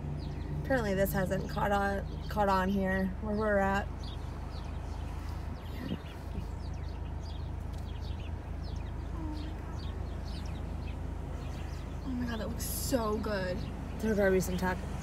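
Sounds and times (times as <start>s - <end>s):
car engine idling: 0.0s - 15.0s
small birds chirping: 0.0s - 15.0s.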